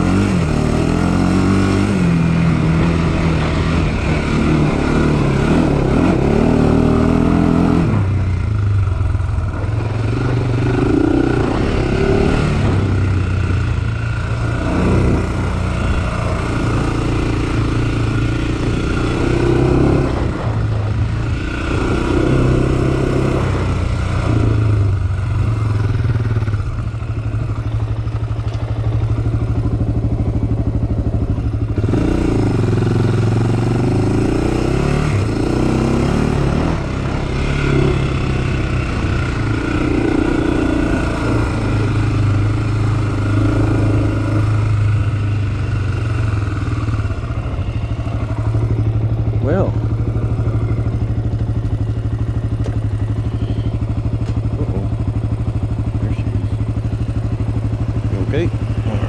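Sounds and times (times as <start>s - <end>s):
quad engine revving: 0.0s - 27.3s, 31.4s - 59.0s.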